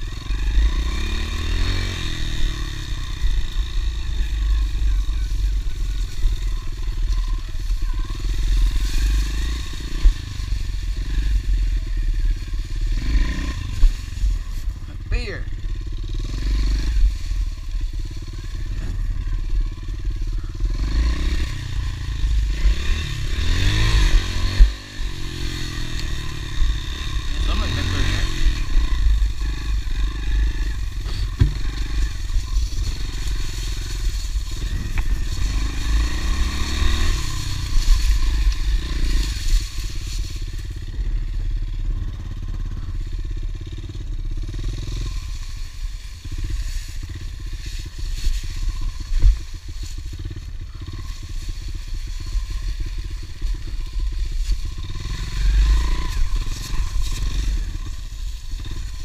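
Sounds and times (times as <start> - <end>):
heavy low rumble: 0.0 - 59.0
motorbike engine revving: 0.0 - 59.0.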